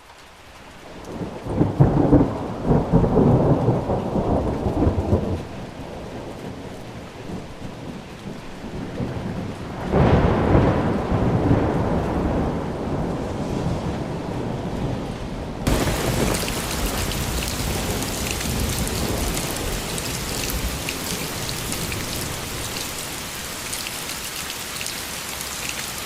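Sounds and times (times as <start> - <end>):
rain falling: 0.0 - 26.0
rolling thunder: 1.0 - 23.8.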